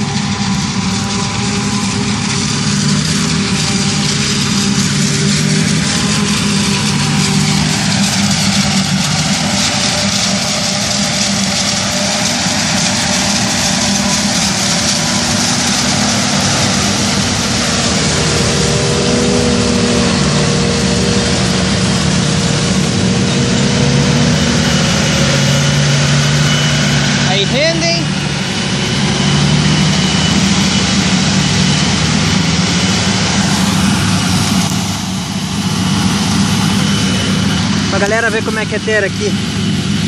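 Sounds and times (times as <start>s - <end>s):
harvester engine drone: 0.0s - 40.0s.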